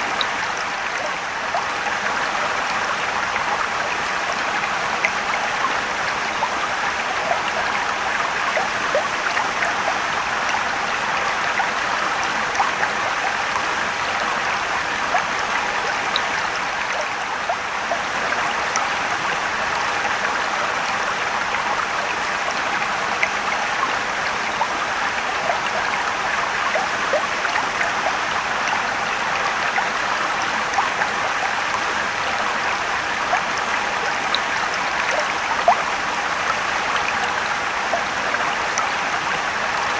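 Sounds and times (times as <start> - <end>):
stream and waterfall rushing: 0.0 - 39.9
water splashes and drips: 0.0 - 39.9.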